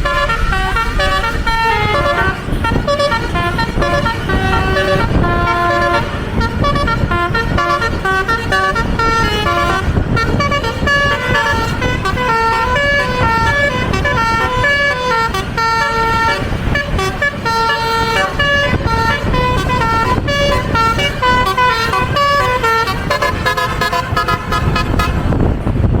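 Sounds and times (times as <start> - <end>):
bus horn playing a melody: 0.0 - 25.9
low rumble: 0.0 - 26.0.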